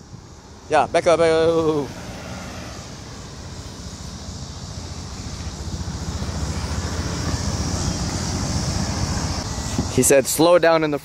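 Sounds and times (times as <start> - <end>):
car engine running: 0.4 - 10.0.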